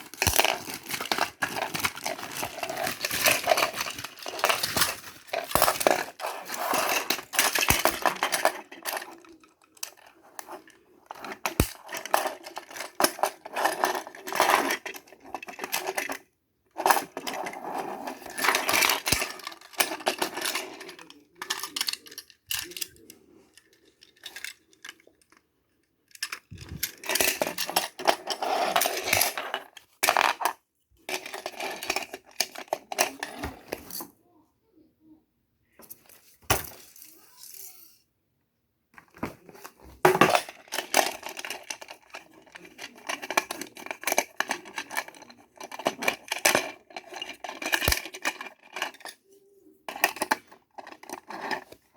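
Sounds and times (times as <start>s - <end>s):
toy pieces clattering: 0.0s - 34.1s, 35.8s - 38.0s, 39.1s - 51.9s.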